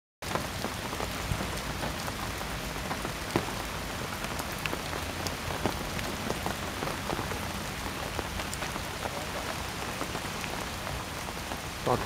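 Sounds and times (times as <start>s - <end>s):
raindrops ticking: 0.2s - 12.0s
steady rain falling: 0.2s - 12.0s.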